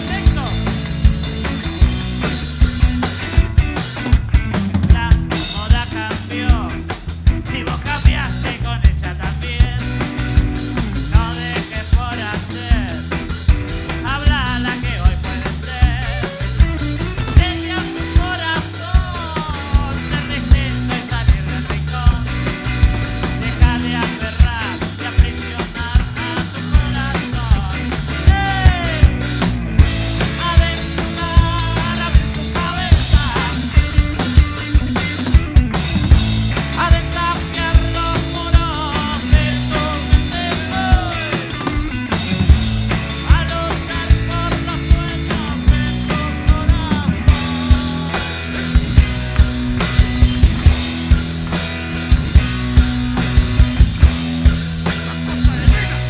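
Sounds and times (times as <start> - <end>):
band playing instrumental: 0.0 - 56.0
drum kit beat: 0.0 - 56.0.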